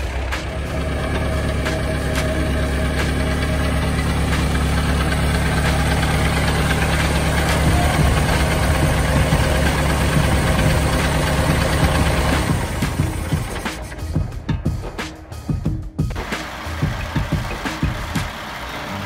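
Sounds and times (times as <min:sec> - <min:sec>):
car engine idling: 0:00.0 - 0:14.4, 0:16.0 - 0:19.0.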